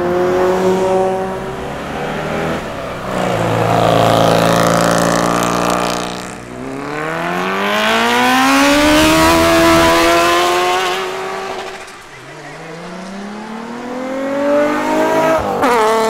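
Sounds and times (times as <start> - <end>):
race car engine accelerating away: 0.0 - 16.0
race car engine passing: 0.0 - 16.0.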